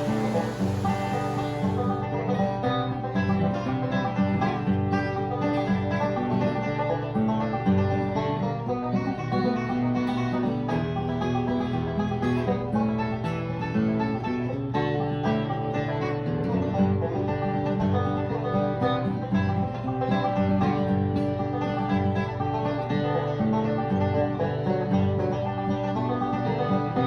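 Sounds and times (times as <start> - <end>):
banjo and guitar music: 0.0 - 27.0.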